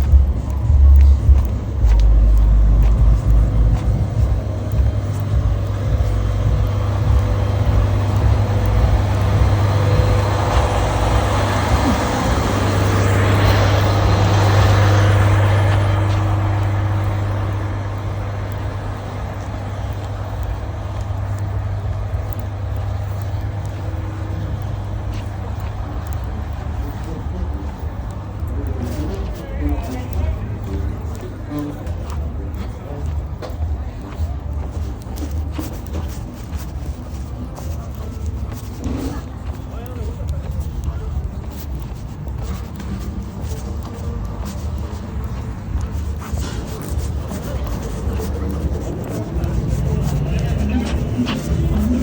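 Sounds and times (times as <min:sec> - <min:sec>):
car engine rumble: 0:00.0 - 0:52.0
road noise: 0:00.0 - 0:52.0.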